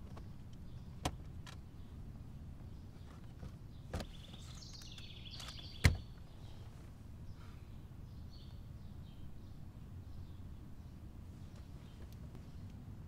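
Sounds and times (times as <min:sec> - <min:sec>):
outdoor background: 0:00.0 - 0:13.0
bird chirping: 0:00.1 - 0:11.1.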